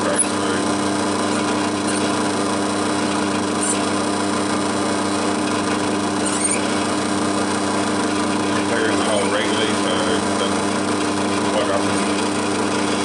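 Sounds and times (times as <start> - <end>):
drill press motor humming: 0.0 - 13.0.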